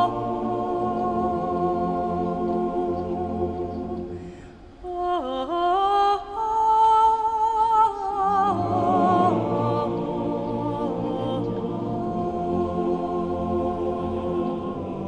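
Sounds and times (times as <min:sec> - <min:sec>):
slow vocal music: 0:00.0 - 0:15.0.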